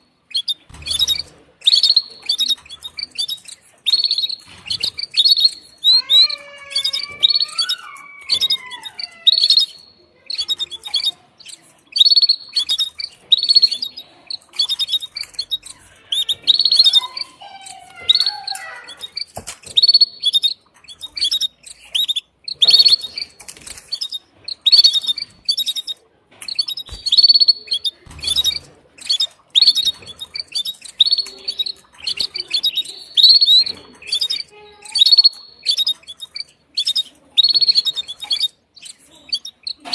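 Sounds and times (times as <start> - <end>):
canary chirping: 0.0 - 39.9.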